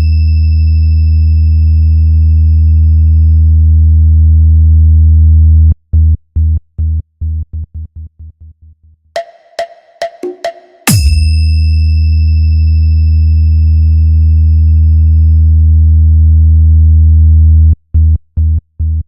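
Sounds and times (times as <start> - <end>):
deep bass tone: 0.0 - 9.0, 10.9 - 19.0.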